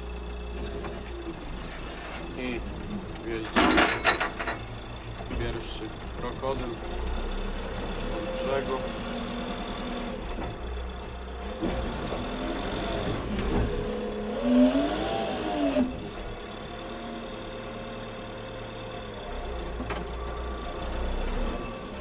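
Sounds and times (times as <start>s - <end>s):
loader engine running: 0.0s - 22.0s.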